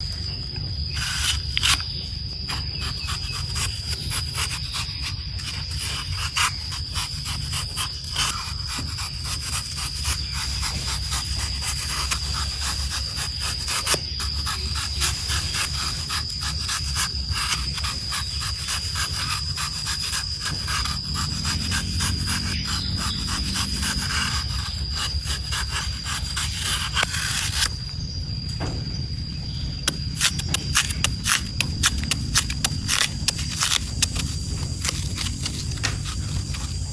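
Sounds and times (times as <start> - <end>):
knife cutting apple: 0.9 - 36.9.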